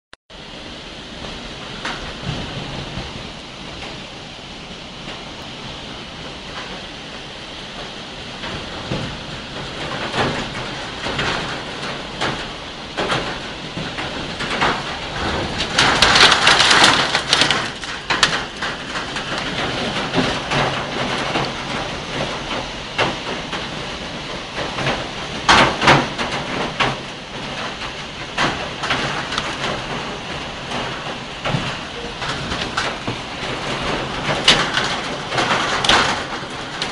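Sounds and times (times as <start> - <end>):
heavy rain in strong wind: 0.3 - 36.9.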